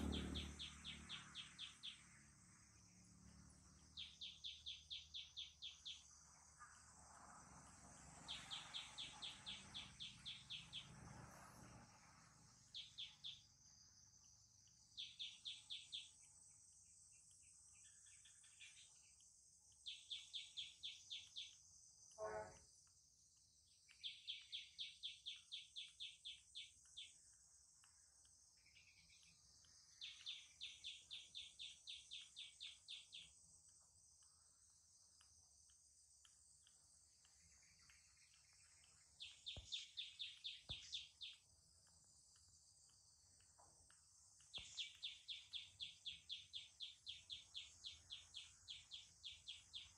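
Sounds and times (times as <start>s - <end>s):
high insect hum: 0.0s - 49.9s
insect chirping: 0.0s - 49.9s.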